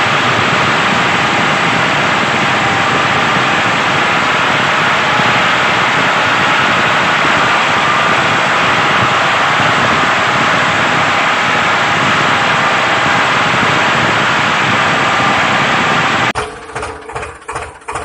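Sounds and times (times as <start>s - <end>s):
choppy pulsing sound: 0.0s - 16.4s
loud engine-like running noise: 0.0s - 18.0s.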